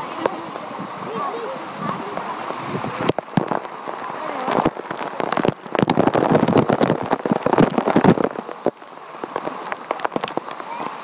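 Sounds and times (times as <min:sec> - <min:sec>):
water splashing: 0:00.0 - 0:11.0
waterfall: 0:00.0 - 0:11.0.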